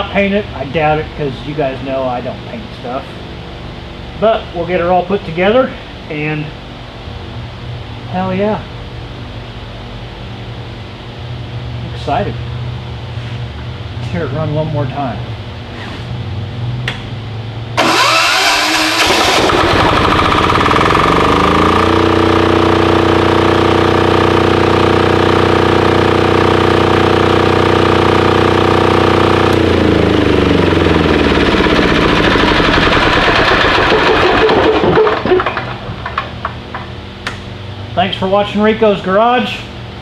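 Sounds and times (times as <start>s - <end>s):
diesel generator running: 0.0s - 40.0s.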